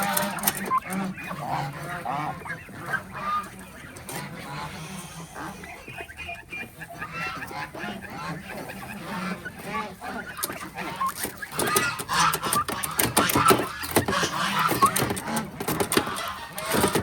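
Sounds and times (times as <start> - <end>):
flock of farm birds calling: 0.0 - 17.0.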